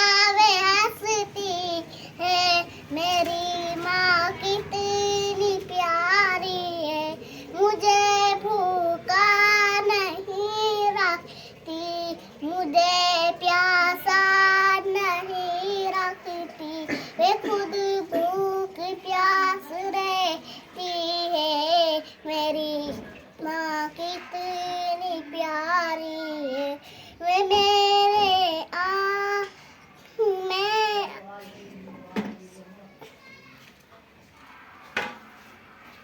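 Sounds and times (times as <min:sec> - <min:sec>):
girl singing unaccompanied: 0:00.0 - 0:31.5.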